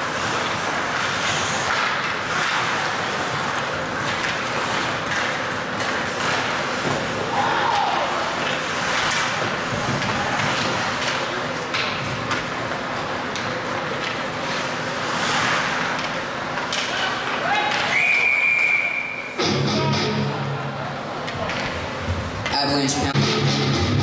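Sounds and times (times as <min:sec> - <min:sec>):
hockey sticks and puck clacking: 0:00.0 - 0:19.2, 0:21.1 - 0:22.8
skating and crowd noise: 0:00.0 - 0:24.0.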